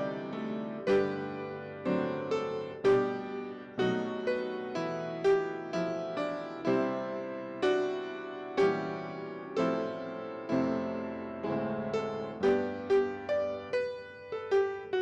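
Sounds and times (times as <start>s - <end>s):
solo piano chords: 0.0s - 15.0s.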